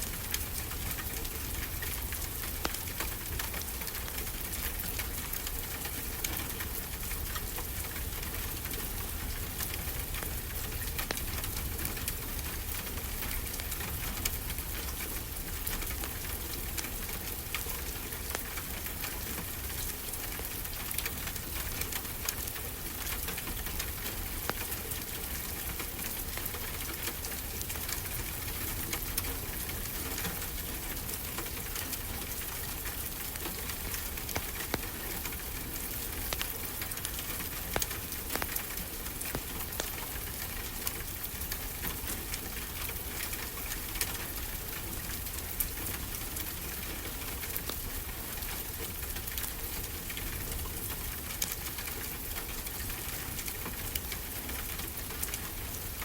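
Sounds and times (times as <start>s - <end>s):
wood fire crackling: 0.0s - 6.0s, 6.7s - 56.0s.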